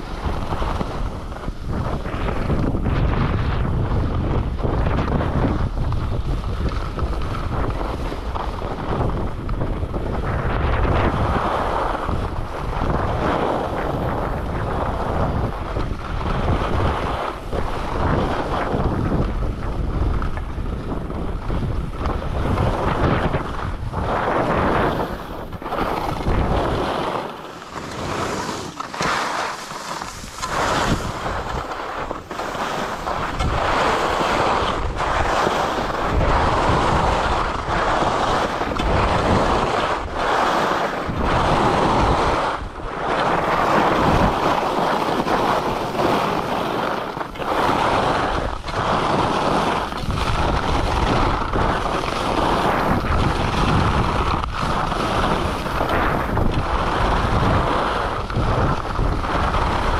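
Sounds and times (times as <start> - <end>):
skis scraping on snow: 0.0 - 59.9
wind rushing over microphone: 0.0 - 59.9.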